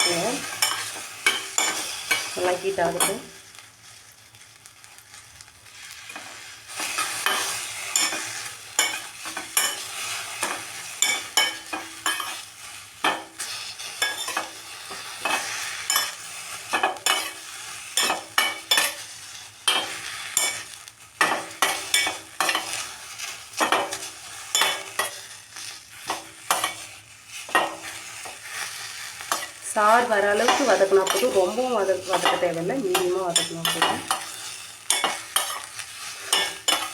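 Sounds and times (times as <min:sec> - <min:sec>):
leaves sizzling in a pan: 0:00.0 - 0:36.9
spatula scraping a pan: 0:00.0 - 0:36.9.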